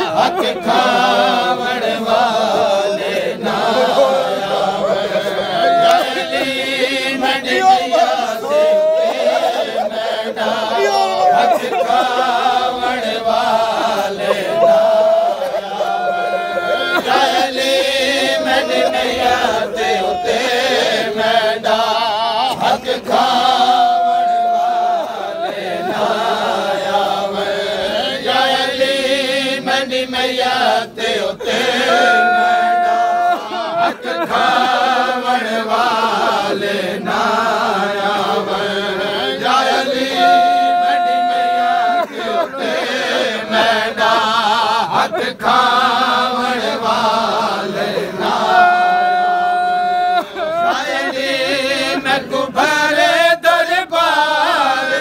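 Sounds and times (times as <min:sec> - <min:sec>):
men chanting together: 0:00.0 - 0:55.0.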